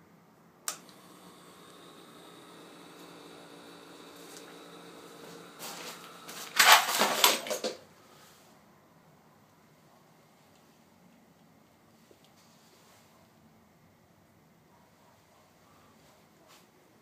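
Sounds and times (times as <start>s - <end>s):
faint electrical hum with tones: 0.0s - 17.0s.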